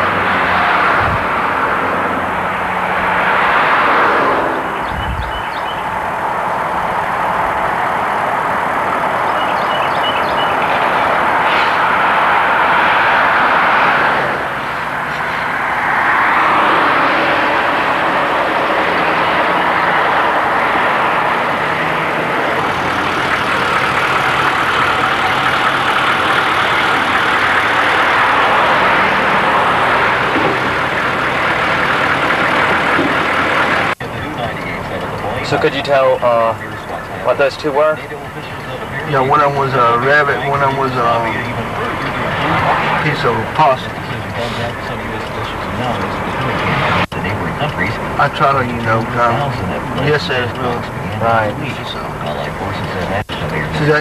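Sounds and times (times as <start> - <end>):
vehicle road and engine noise: 0.0 - 54.0.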